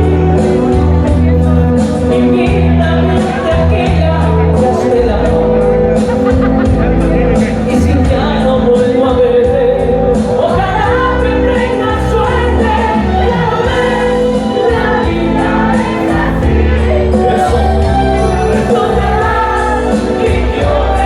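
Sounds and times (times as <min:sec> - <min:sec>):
instrumental backing with bass line: 0:00.0 - 0:21.0
person singing: 0:00.0 - 0:21.0.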